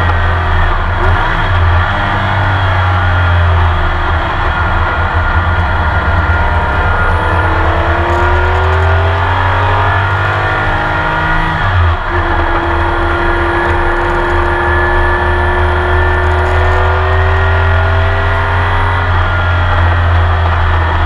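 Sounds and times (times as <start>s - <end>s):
gear upshift: 0.0s - 20.6s
racing engine revving: 0.0s - 21.0s.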